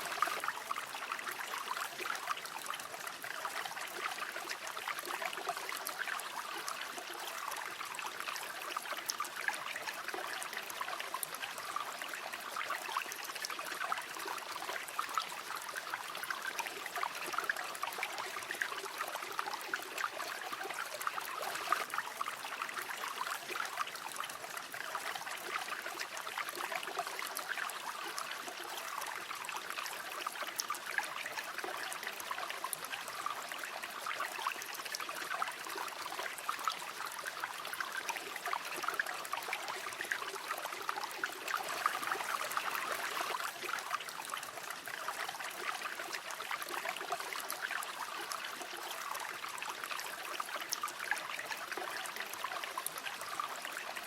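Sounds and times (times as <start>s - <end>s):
river water babbling over stones: 0.0s - 54.0s.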